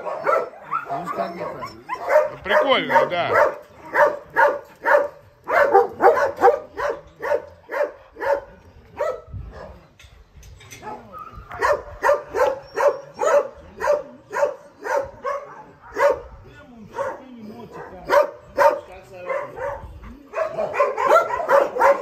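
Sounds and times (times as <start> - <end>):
dogs barking: 0.0 - 9.8, 10.8 - 22.0.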